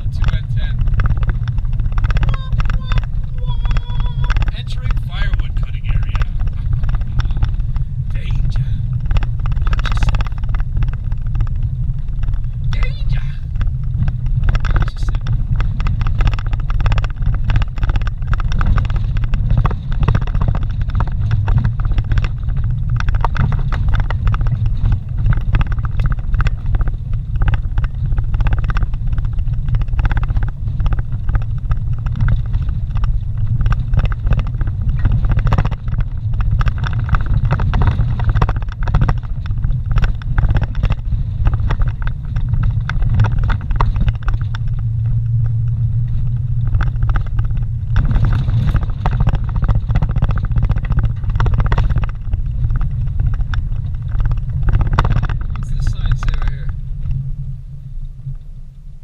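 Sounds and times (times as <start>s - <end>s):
small knocks and rattles: 0.0s - 57.2s
vehicle engine and tyre rumble: 0.0s - 59.0s.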